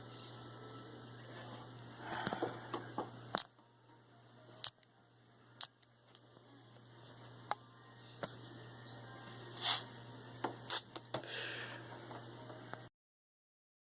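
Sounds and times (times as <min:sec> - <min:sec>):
faint steady hum: 0:00.0 - 0:12.9.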